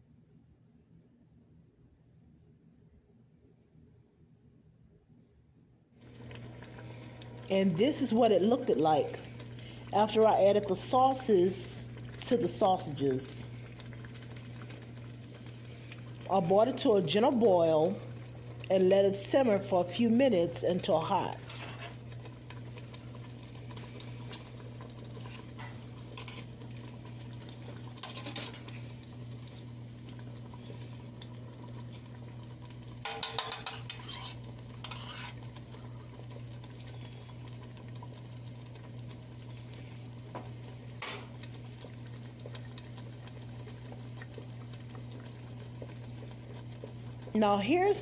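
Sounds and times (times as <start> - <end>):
sauce bubbling and popping: 6.0 - 47.8.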